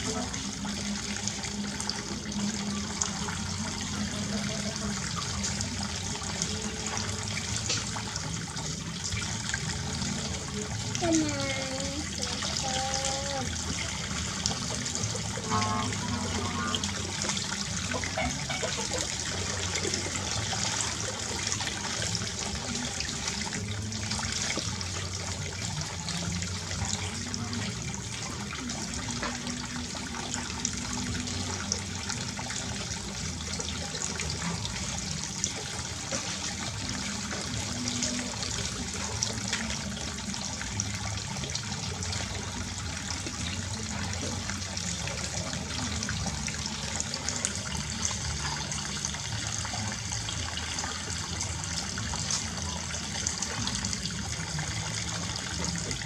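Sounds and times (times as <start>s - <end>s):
tap water running and splashing: 0.0s - 56.0s.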